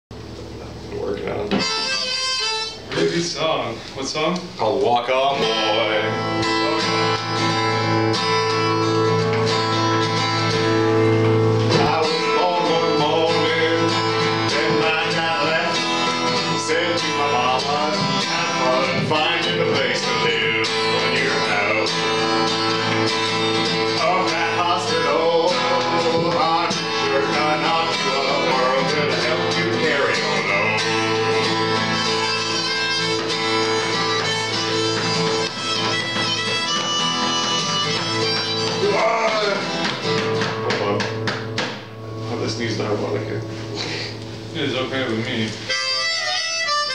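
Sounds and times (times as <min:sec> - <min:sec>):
acoustic guitar strumming: 0:01.3 - 0:03.8, 0:04.4 - 0:46.9
harmonica melody: 0:01.5 - 0:03.3, 0:05.4 - 0:46.9.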